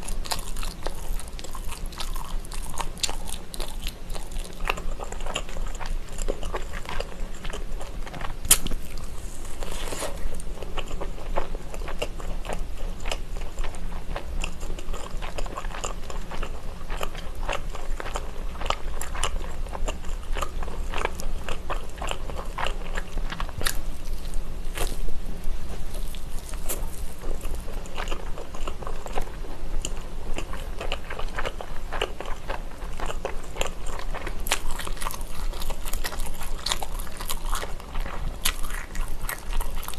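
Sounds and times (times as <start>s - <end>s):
chewing crunchy fried food: 0.0s - 39.9s.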